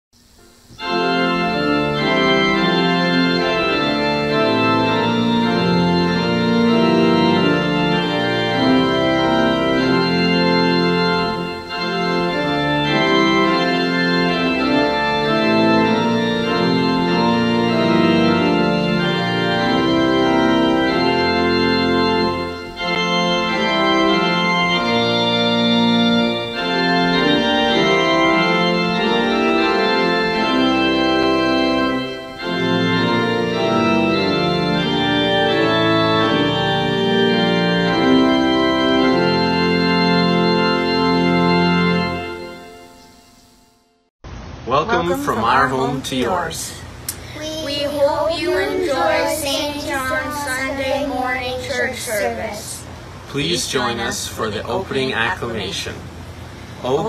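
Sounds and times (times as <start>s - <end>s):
organ chords: 0.2s - 57.0s.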